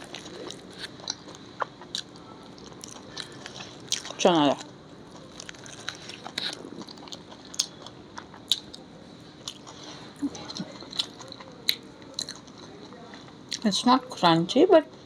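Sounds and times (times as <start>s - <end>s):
chewing food: 0.0s - 13.7s.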